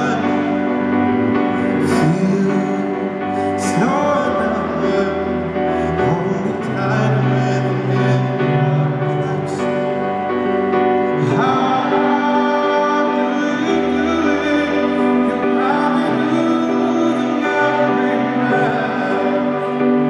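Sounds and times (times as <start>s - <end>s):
man singing: 0.0s - 20.0s
slow ballad live music: 0.0s - 20.0s.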